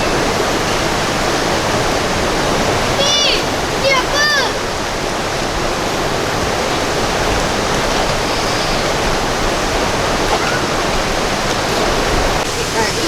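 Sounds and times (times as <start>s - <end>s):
water rushing: 0.0s - 13.0s.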